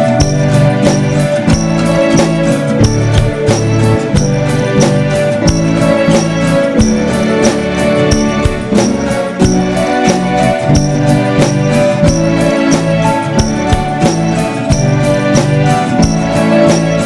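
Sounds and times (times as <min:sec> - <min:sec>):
instrumental band music: 0:00.0 - 0:17.0.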